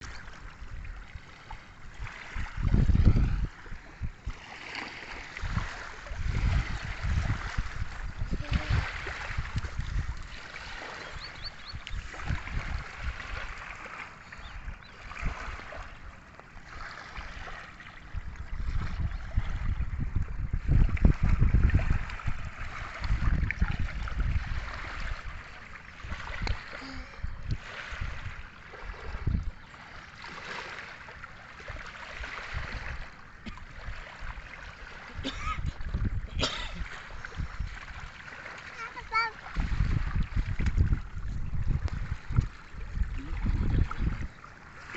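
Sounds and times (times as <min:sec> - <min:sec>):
water splashing and gurgling: 0:00.0 - 0:44.9.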